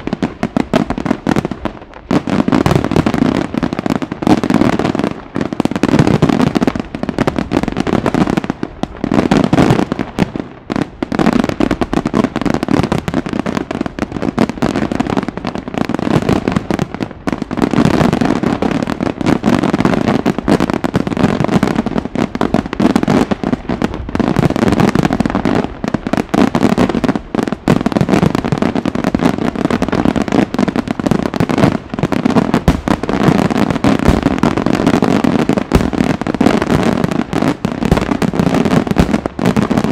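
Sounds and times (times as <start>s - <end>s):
crackling firework stars: 0.0s - 39.9s.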